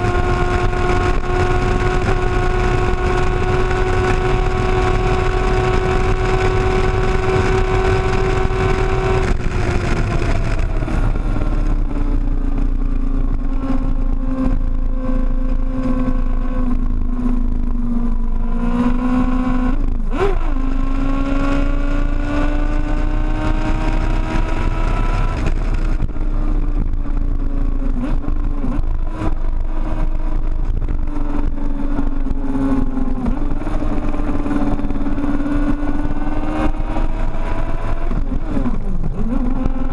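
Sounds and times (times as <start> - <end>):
motorbike engine running hard: 0.0 - 39.9
wind rumble on microphone: 0.0 - 39.9.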